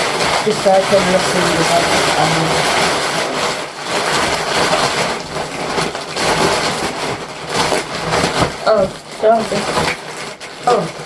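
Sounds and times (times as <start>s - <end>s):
plastic bag rustling and crinkling: 0.0s - 11.0s.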